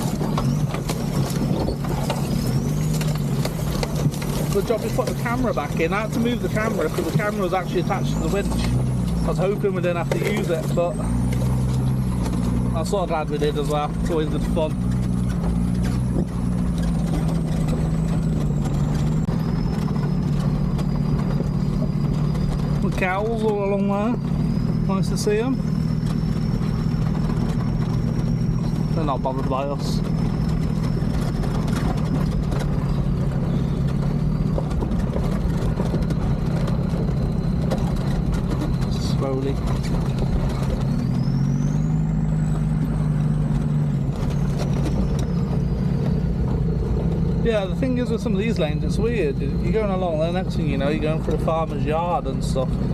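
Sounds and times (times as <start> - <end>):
body rattle clicks and knocks: 0.0 - 52.9
diesel engine running at low revs: 0.0 - 52.9.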